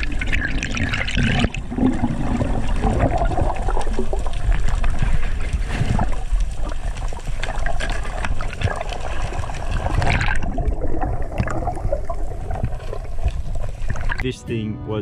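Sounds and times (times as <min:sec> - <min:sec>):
small underwater clicks: 0:00.0 - 0:14.2
underwater rushing water: 0:00.0 - 0:14.2.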